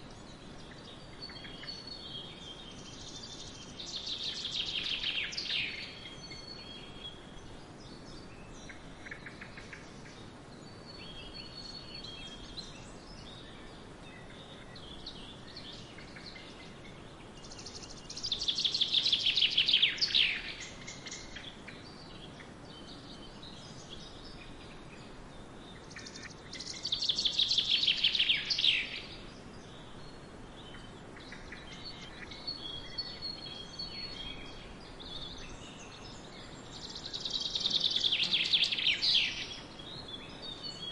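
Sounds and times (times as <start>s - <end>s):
quiet bird chirps: 0.0s - 40.9s
wind through a grain field: 0.0s - 40.9s.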